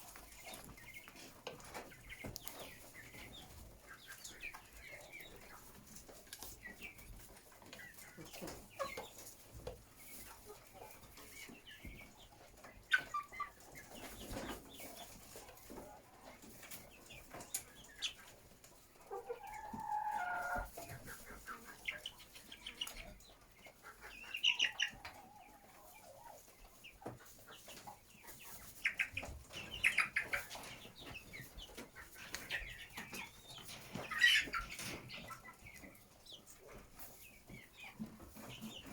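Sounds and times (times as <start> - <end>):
chicken calls: 0.0 - 38.9
chickens clucking: 0.0 - 38.9.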